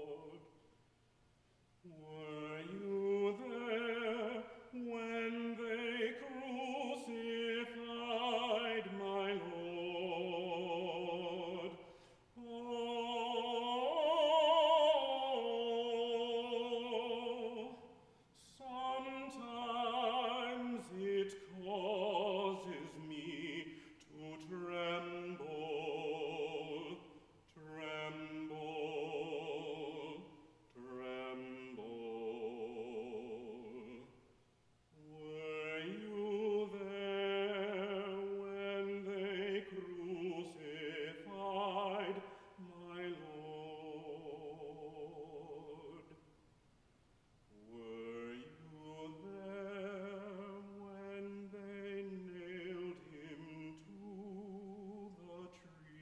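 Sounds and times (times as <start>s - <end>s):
man singing with vibrato: 0.0s - 0.6s, 1.8s - 46.4s, 47.5s - 56.0s.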